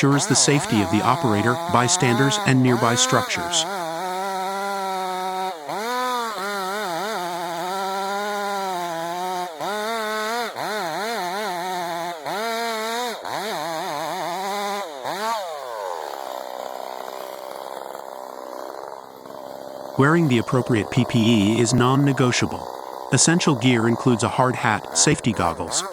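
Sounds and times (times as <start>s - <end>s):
chainsaw cutting into tree: 0.0s - 25.9s.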